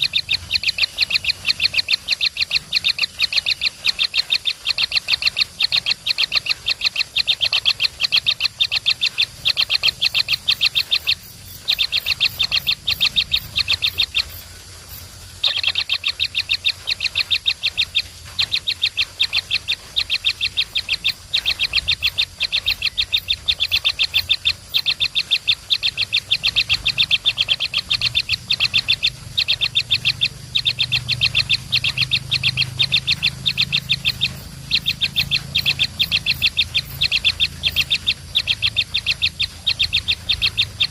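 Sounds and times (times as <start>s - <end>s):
baby birds chirping: 0.0s - 40.9s.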